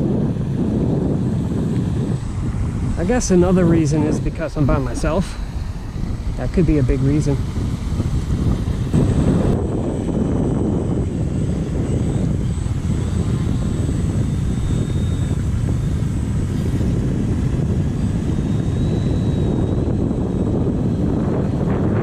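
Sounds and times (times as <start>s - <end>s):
model plane electric motor whine: 0.0s - 22.0s
wind buffeting microphone: 0.0s - 22.0s.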